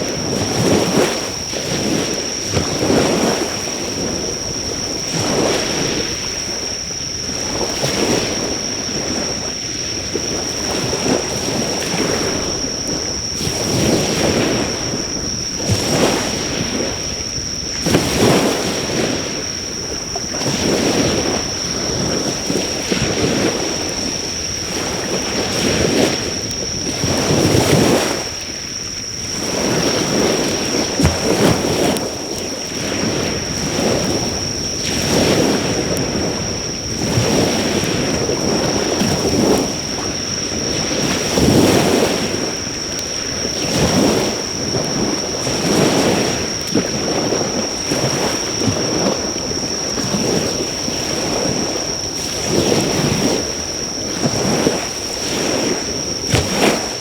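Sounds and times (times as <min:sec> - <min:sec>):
insects trilling: 0:00.0 - 0:57.0
waves breaking on shore: 0:00.0 - 0:57.0.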